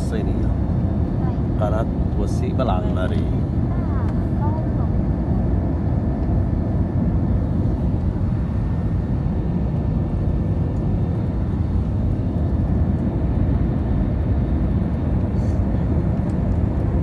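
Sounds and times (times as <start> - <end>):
jet engine cabin noise: 0.0 - 17.0.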